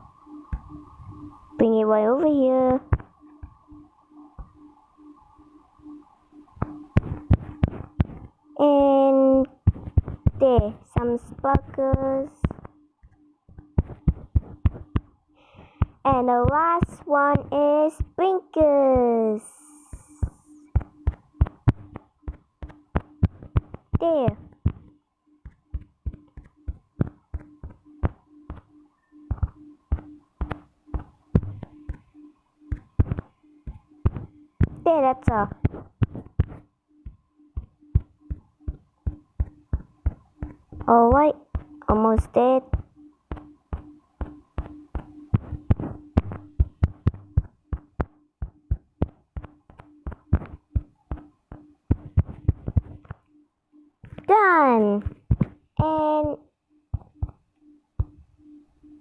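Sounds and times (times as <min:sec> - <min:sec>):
faint steady hum: 0:00.0 - 0:59.0
fingertip taps on touchscreen: 0:06.6 - 0:08.4, 0:09.4 - 0:19.1, 0:19.7 - 0:53.3, 0:54.0 - 0:54.3, 0:55.0 - 0:57.4, 0:58.0 - 0:58.2.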